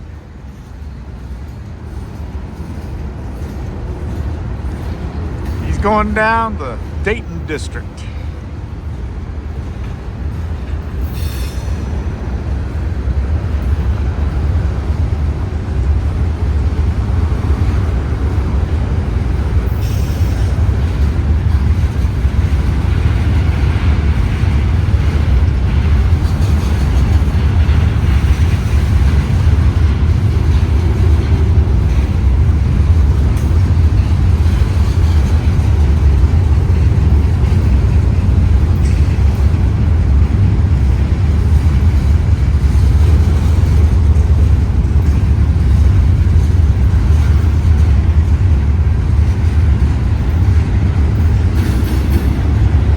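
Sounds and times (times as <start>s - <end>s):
freight train rumbling by: 0.0s - 52.9s.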